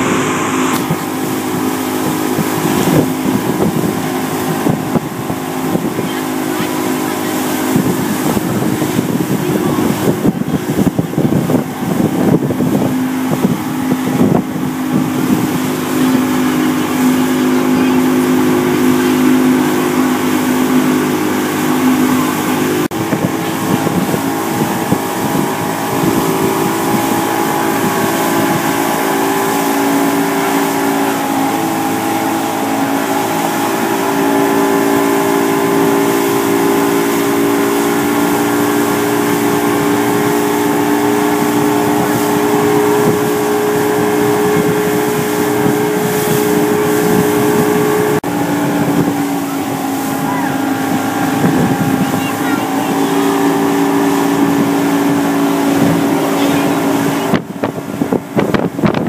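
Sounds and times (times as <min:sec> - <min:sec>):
outboard motor running: 0:00.0 - 0:59.0
water rushing: 0:00.0 - 0:59.0
wind buffeting microphone: 0:00.0 - 0:59.0.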